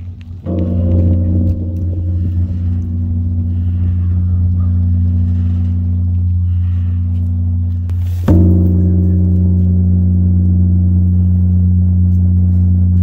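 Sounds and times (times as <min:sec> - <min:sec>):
large bell ringing: 0:00.3 - 0:12.5.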